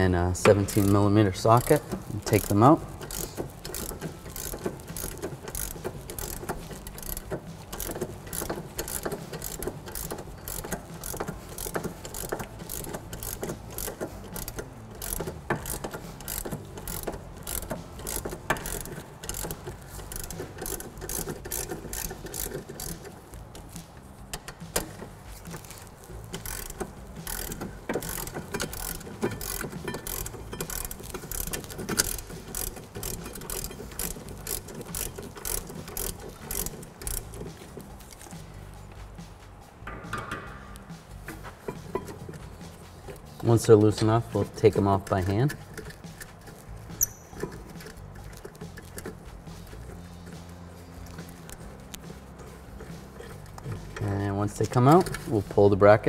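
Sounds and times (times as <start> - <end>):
hand ratchet clicking: 0.0 - 39.2, 39.8 - 56.0.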